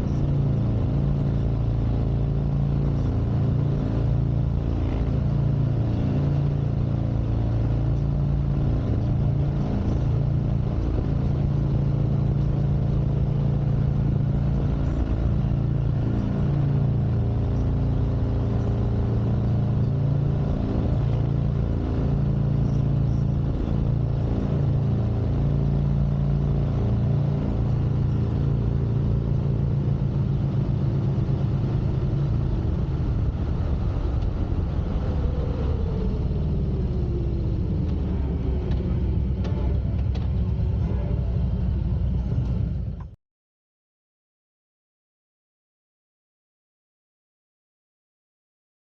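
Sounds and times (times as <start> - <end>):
motorcycle engine running: 0.0 - 43.2.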